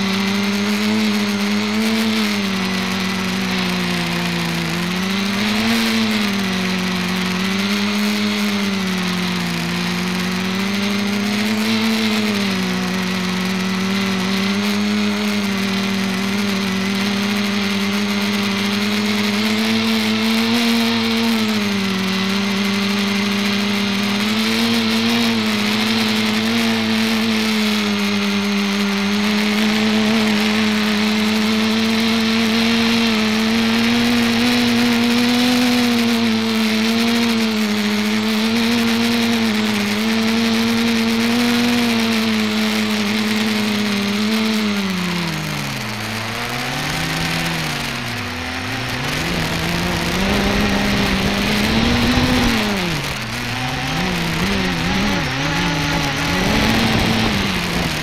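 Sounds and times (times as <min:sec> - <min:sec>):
multicopter motors humming: 0:00.0 - 0:58.0.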